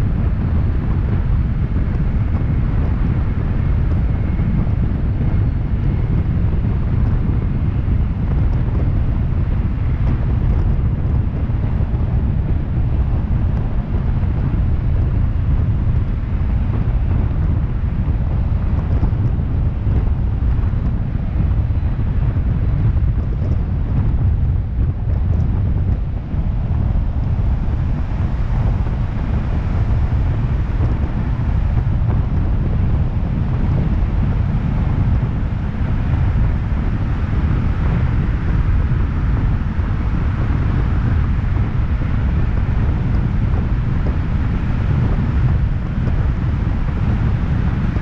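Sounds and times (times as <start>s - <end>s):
tyre and road noise: 0.0s - 48.0s
wind buffeting microphone: 0.0s - 48.0s.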